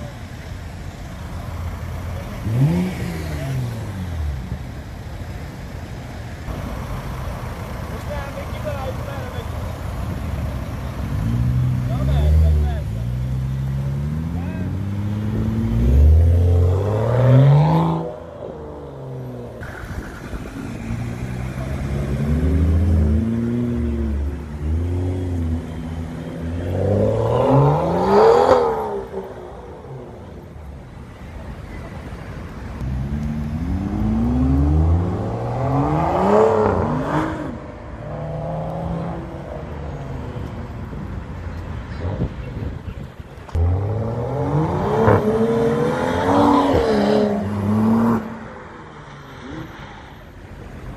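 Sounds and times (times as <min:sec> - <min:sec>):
sports car engines revving: 0:00.0 - 0:50.9.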